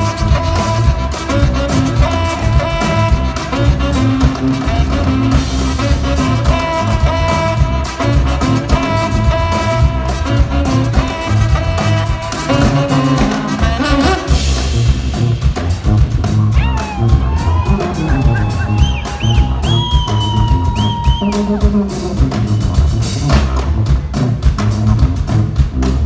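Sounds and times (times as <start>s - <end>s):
drums: 0.0s - 26.0s
saxophone: 0.0s - 26.0s
tuba bass line: 0.0s - 26.0s.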